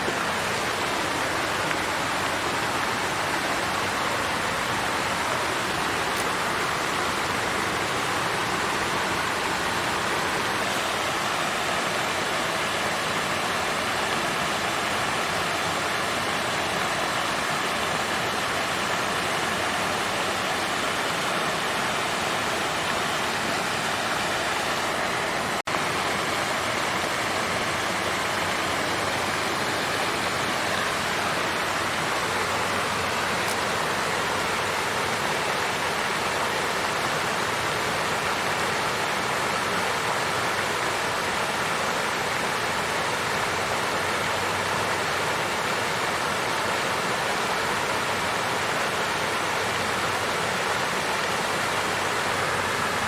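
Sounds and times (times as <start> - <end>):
water fountain splashing: 0.0 - 53.0.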